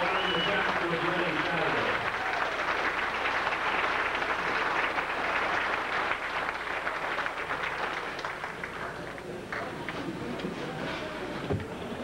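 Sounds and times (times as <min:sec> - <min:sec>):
crowd applause: 0:00.0 - 0:10.2.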